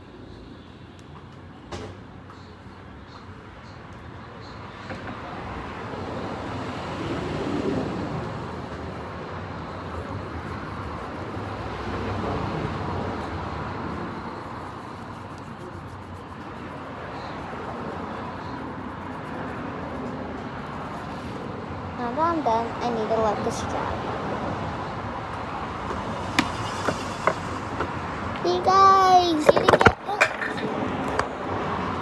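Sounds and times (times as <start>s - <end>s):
road traffic rushing by: 0.0s - 32.0s.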